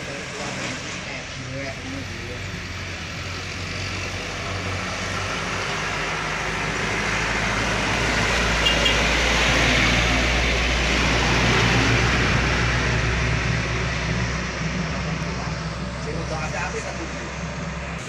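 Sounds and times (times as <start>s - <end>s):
truck diesel engine climbing: 0.0s - 18.0s.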